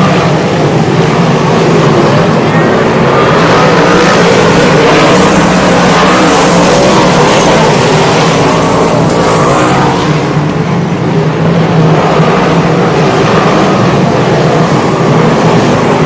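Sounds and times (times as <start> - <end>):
racing car engines roaring: 0.0 - 16.0.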